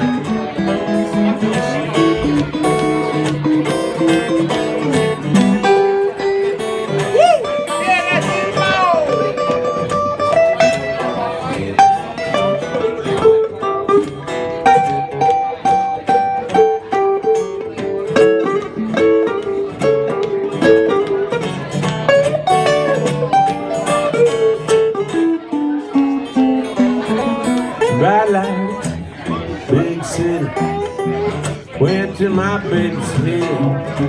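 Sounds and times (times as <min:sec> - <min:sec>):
acoustic guitars playing blues: 0:00.0 - 0:34.0.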